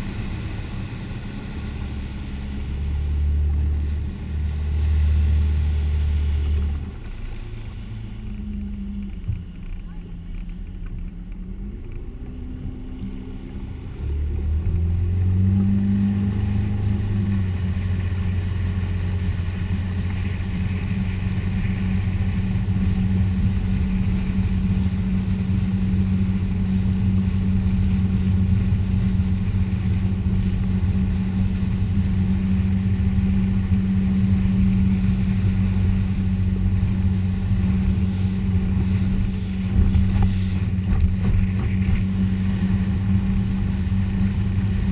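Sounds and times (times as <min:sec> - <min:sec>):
water rushing: 0:00.0 - 0:10.9, 0:11.6 - 0:44.9
motorboat engine running: 0:00.0 - 0:44.9
wind: 0:00.0 - 0:44.9.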